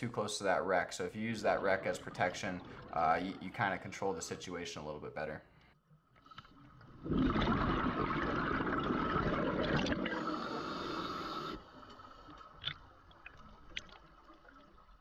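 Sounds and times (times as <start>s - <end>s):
underwater rushing and bubbling: 0.0s - 4.2s, 6.6s - 15.0s.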